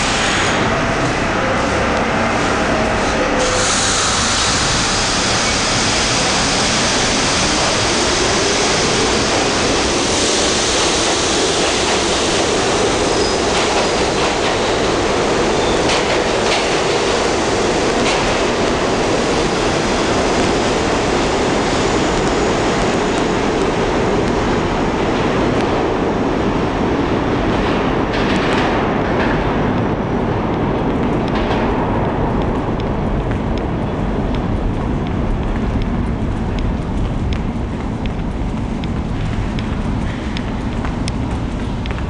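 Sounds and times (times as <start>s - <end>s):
subway train wheels rumbling: 0.0s - 42.0s.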